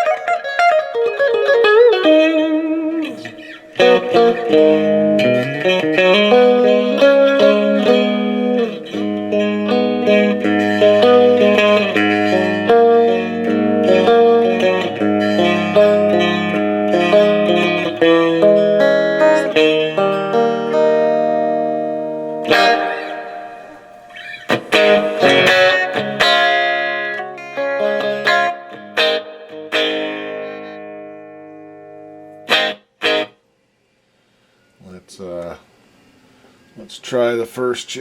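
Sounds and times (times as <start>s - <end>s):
electric guitar chords and notes: 0.0s - 33.4s.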